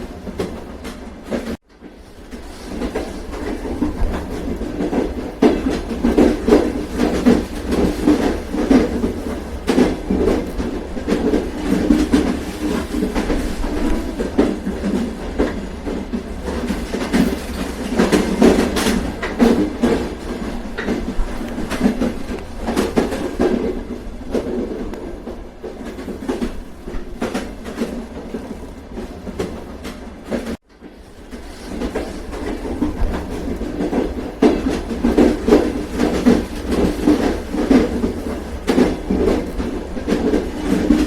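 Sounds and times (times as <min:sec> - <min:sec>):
train rumbling on rails: 0:00.0 - 0:41.0
wheels clacking over rail joints: 0:00.0 - 0:41.0.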